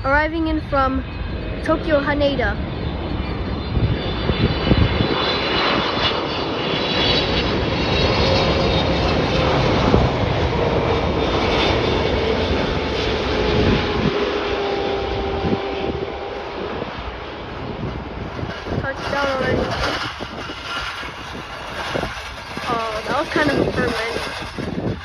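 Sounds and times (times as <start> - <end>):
jet engine roar with whine: 0.0 - 25.0.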